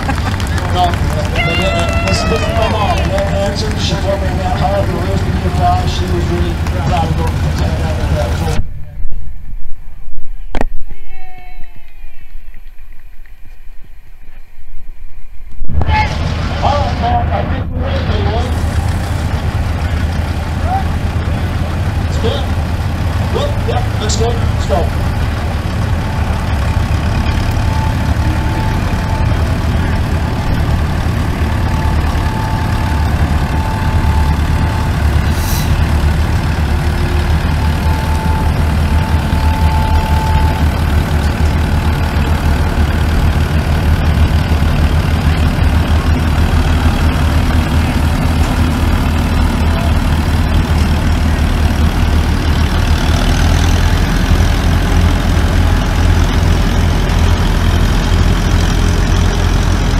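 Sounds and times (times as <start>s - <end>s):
tractor engine drone: 0.0s - 59.9s.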